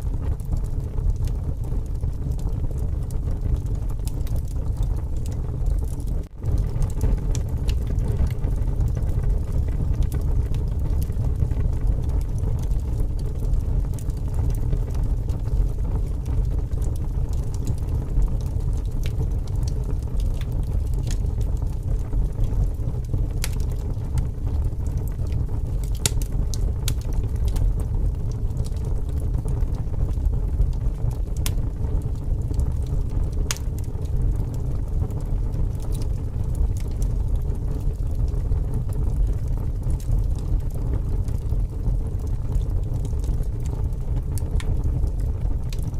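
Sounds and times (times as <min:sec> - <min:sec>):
burning logs crackling: 0:00.0 - 0:45.9.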